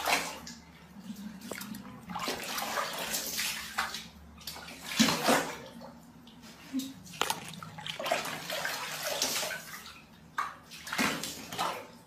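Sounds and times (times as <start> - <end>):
water splashing in a plastic tub: 0.0 - 12.0.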